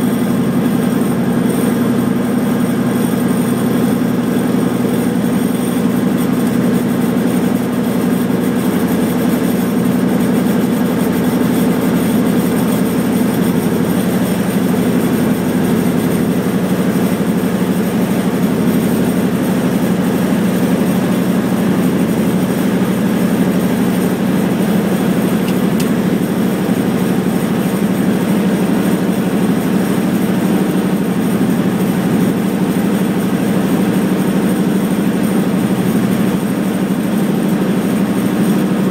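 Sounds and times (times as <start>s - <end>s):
helicopter engine hum: 0.0s - 38.9s.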